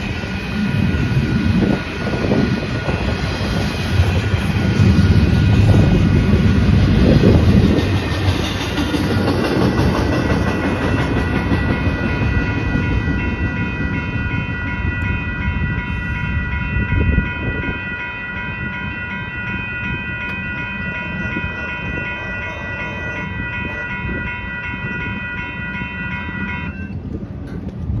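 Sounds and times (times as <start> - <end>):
crossing warning bell ringing: 0.0 - 27.8
freight train rumbling over rails: 0.0 - 28.0.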